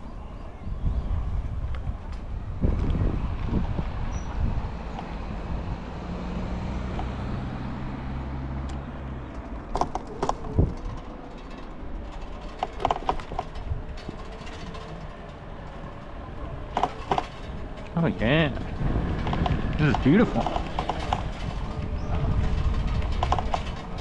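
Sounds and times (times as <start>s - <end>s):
road and wind rush: 0.0s - 24.0s.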